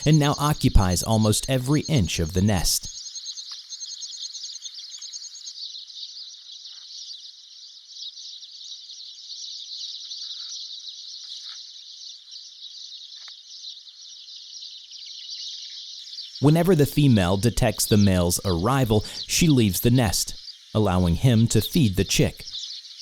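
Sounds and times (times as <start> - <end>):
faint bird chirps: 0.0 - 23.0
insects chirring: 0.0 - 23.0.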